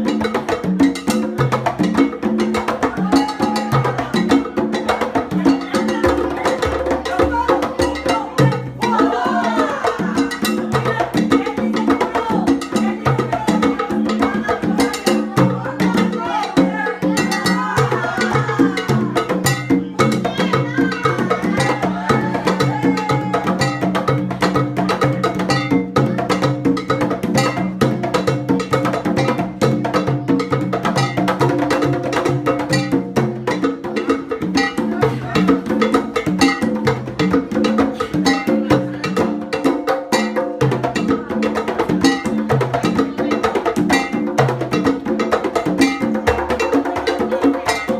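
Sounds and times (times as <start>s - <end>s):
percussion with clicking beat: 0.0s - 47.9s.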